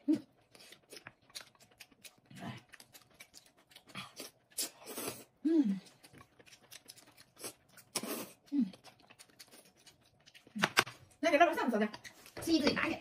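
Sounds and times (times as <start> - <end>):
noodles slurped and chewed: 0.0 - 11.1.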